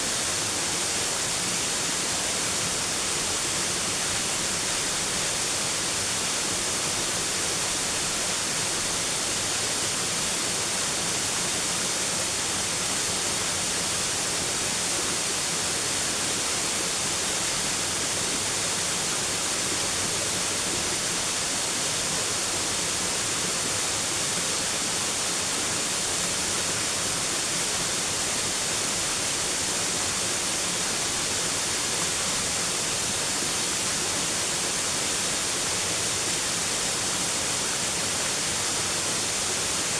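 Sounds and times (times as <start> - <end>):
steady hiss-like rushing noise: 0.0 - 39.9.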